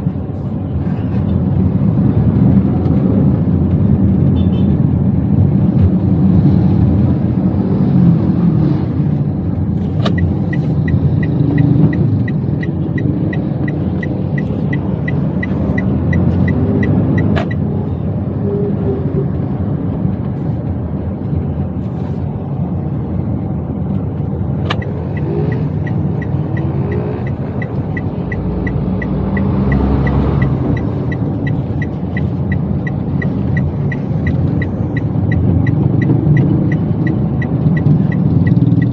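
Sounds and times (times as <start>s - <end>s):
car engine and road noise: 0.0s - 38.9s
turn signal ticking: 0.0s - 38.9s.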